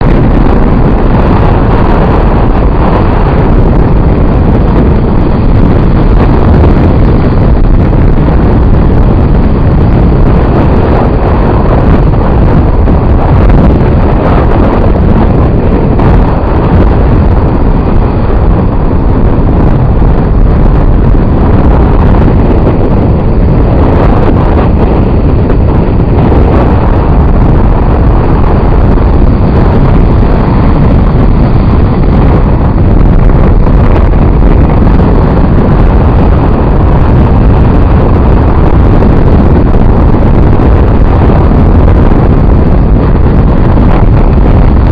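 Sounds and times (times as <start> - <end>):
stormy sea: 0.0 - 44.9
wind buffeting microphone: 0.0 - 44.9.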